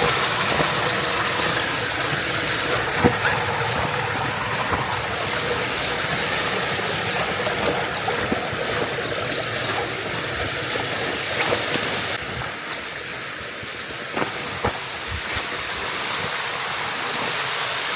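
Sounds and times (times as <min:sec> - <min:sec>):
stream flowing over rocks: 0:00.0 - 0:17.9.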